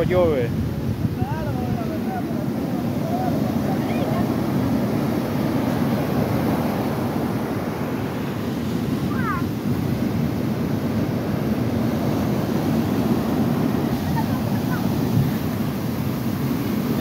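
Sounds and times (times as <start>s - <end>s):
ocean surf on beach: 0.0s - 17.0s
wind buffeting microphone: 0.0s - 17.0s.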